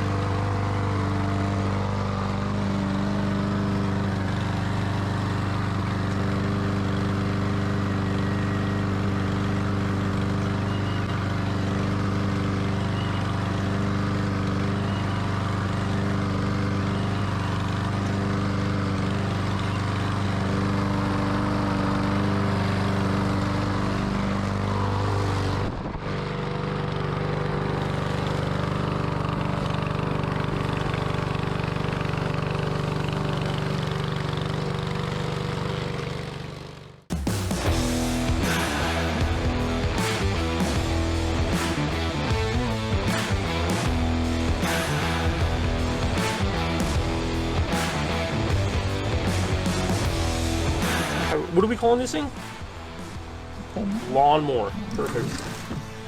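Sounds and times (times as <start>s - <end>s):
lawnmower engine running: 0.0s - 56.0s.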